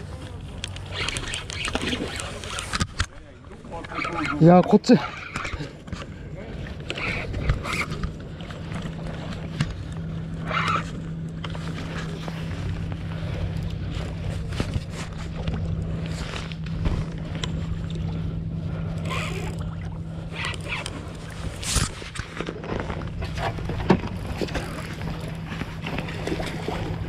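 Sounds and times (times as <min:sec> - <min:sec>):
fishing reel clicks and rustles: 0:00.0 - 0:27.0
low motor hum: 0:00.0 - 0:27.0.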